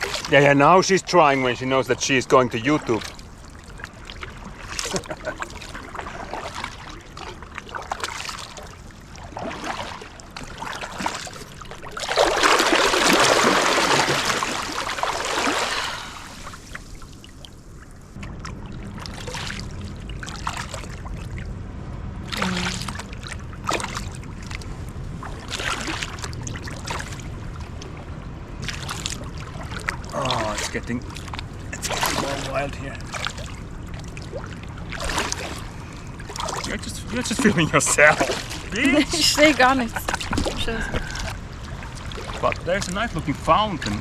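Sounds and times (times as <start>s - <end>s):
kayak paddle strokes in water: 0.0s - 21.5s, 22.4s - 44.0s
rushing splash: 0.0s - 21.5s, 22.2s - 44.0s
low steady rumble: 0.0s - 44.0s.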